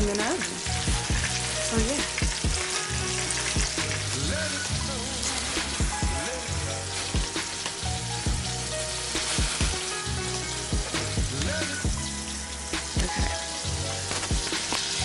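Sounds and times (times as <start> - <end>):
background music with steady beat: 0.0 - 15.0
chicken sizzling in a skillet: 0.0 - 15.0.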